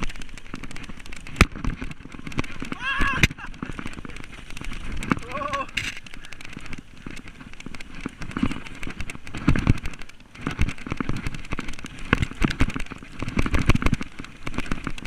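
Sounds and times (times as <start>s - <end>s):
mountain bike rattling over bumps: 0.0s - 15.0s.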